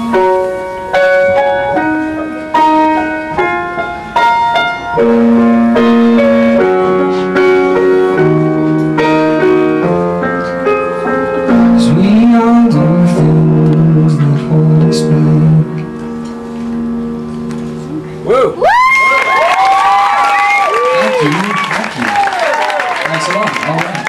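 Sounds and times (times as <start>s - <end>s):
keyboard chords: 0.0s - 21.4s.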